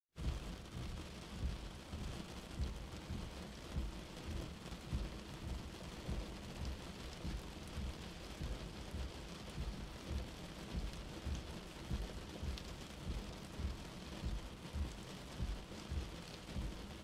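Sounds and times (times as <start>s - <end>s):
rain hissing: 0.2s - 17.0s.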